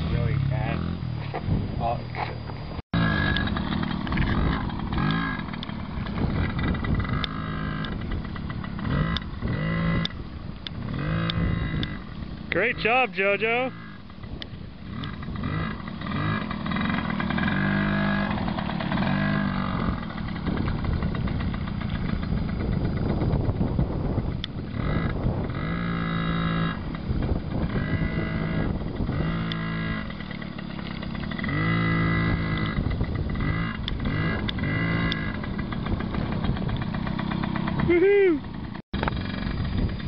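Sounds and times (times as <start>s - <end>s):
small two-stroke engine revving: 0.0s - 1.5s, 3.0s - 40.0s.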